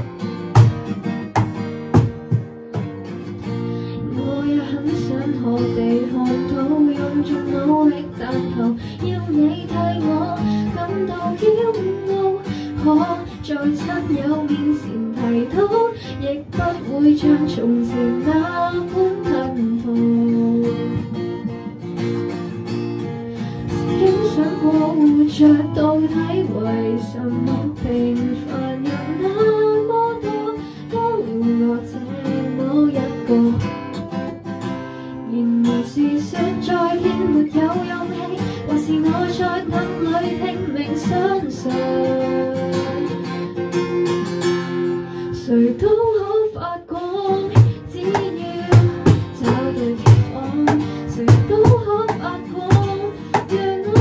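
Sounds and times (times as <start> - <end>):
acoustic guitar strumming: 0.0 - 54.0
woman singing: 3.4 - 21.8, 23.4 - 34.0, 35.1 - 54.0.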